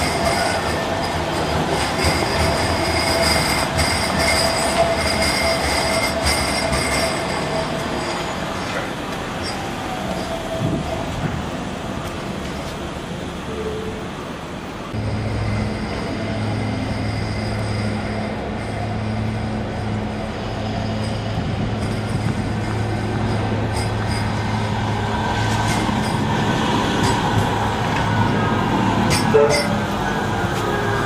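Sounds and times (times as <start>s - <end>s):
tram rolling past: 0.0s - 31.0s.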